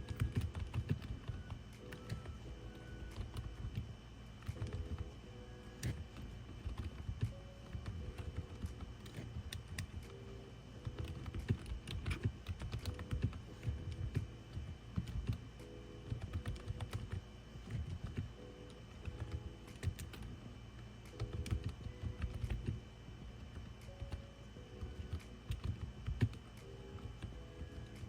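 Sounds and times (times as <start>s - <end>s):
soft keyboard typing: 0.0s - 28.0s.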